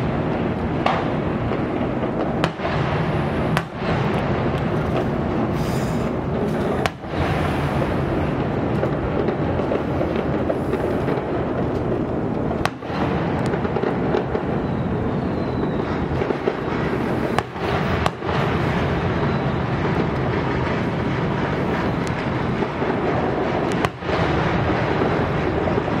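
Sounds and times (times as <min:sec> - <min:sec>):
fireworks bursting and crackling: 0:00.0 - 0:26.0
sharp firework cracks: 0:00.0 - 0:26.0.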